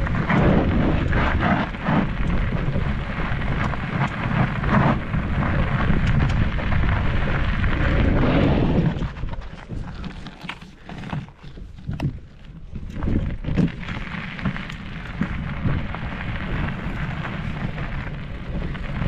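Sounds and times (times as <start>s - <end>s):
wind buffeting microphone: 0.0s - 10.1s, 11.6s - 19.0s
bike clicks and rattles: 0.0s - 19.0s.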